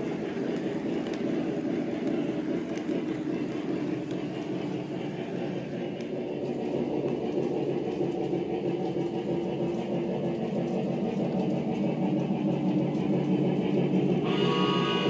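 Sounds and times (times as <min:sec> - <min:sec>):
model train wheels and motor rumbling: 0:00.0 - 0:15.0.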